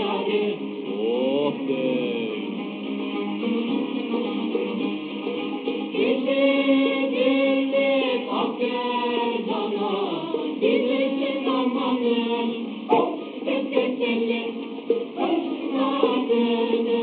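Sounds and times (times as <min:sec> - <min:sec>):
mixed choir singing folk song: 0:00.0 - 0:17.0.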